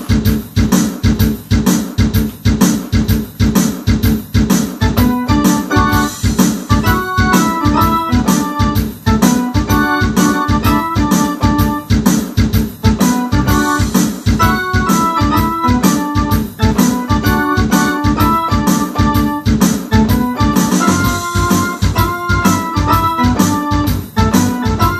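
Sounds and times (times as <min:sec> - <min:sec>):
steady beat: 0:00.0 - 0:24.9
synthesizer rock keyboard part: 0:00.0 - 0:24.9.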